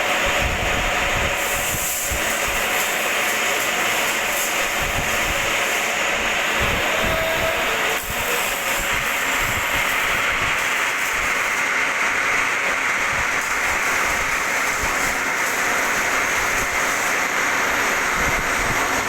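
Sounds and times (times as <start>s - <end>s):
metal lathe machining hiss: 0.0s - 19.0s.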